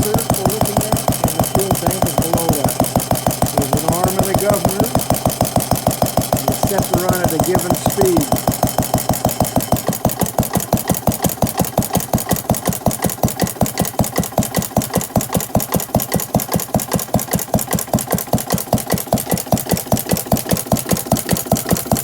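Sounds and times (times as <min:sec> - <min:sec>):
stationary engine running: 0:00.0 - 0:22.0.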